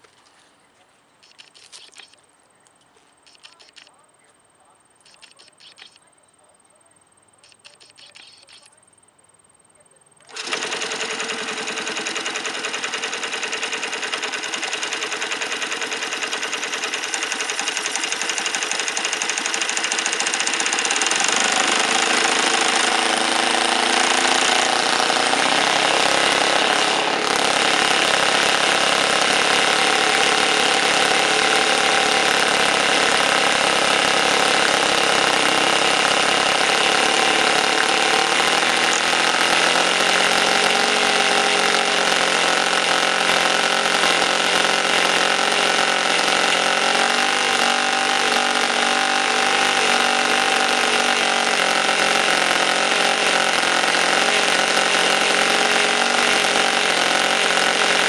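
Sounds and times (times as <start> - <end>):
model engine running: 10.2 - 58.0.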